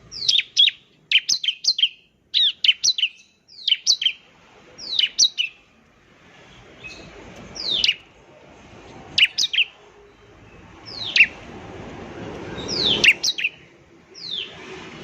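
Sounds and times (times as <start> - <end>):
bird chirping: 0.0 - 5.7, 6.4 - 8.1, 8.8 - 11.5, 12.2 - 15.0.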